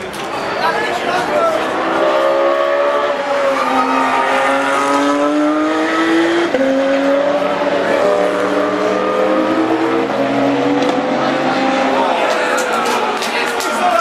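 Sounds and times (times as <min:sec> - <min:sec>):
race car engine pulling hard: 0:01.6 - 0:14.0.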